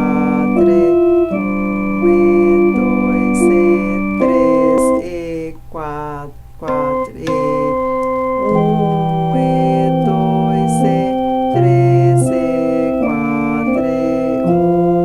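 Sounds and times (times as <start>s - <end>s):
electronic organ melody: 0.0s - 15.0s.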